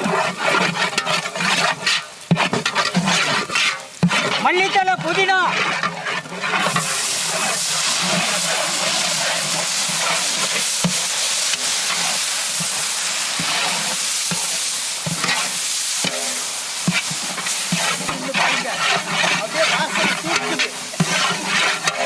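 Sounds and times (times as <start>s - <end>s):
ladle scraping a pot: 0.0s - 22.0s
onions sizzling in oil: 0.0s - 22.0s.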